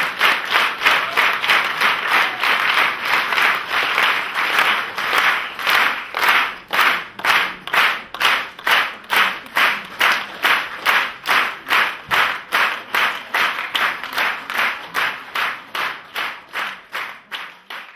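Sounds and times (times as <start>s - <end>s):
audience clapping in unison: 0.0s - 17.9s.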